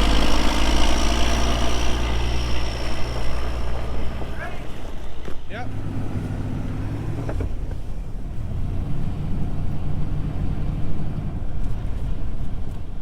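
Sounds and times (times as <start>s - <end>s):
engine running under load: 0.0s - 13.0s.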